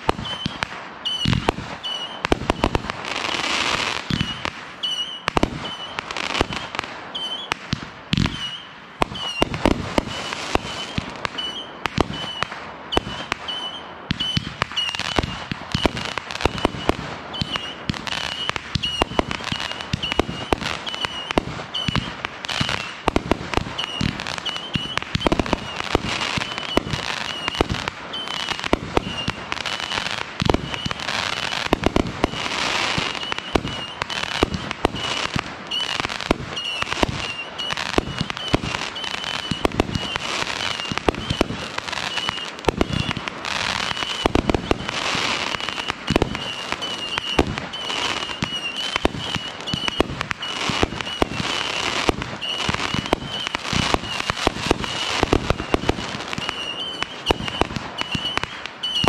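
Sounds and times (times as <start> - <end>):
firework cake firing: 0.0 - 59.0.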